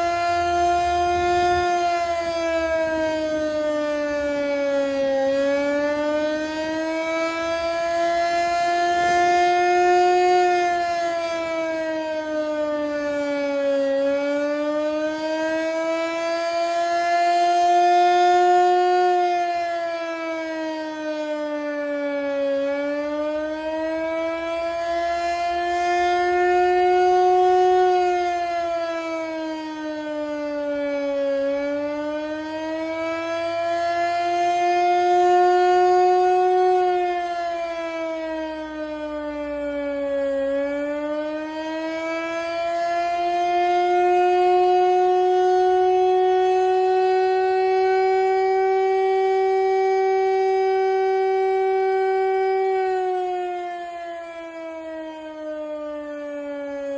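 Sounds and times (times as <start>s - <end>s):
mechanical fire siren wailing: 0.0s - 56.9s.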